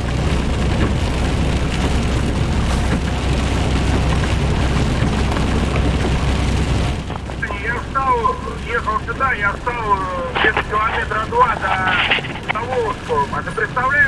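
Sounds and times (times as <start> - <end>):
rain on windscreen: 0.0 - 14.0
vehicle driving on wet road: 0.0 - 14.0.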